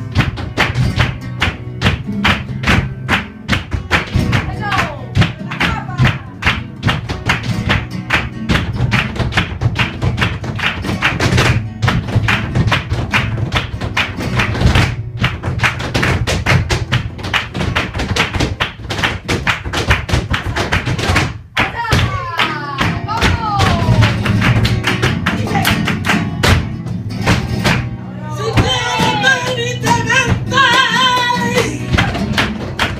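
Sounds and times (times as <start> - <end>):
dancers' shoes striking floor: 0.0 - 32.9
flamenco guitar music: 0.0 - 32.9.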